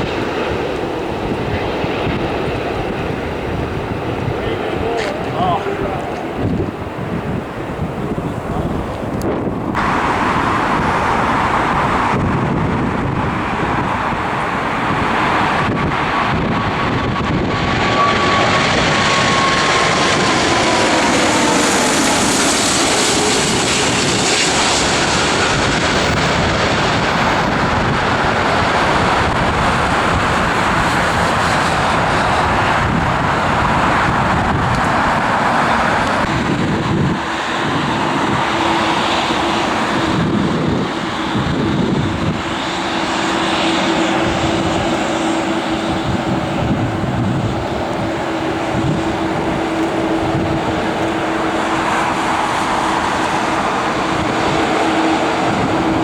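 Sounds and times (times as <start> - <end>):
jet engines passing: 0.0 - 56.0
steady low drone: 0.0 - 56.0.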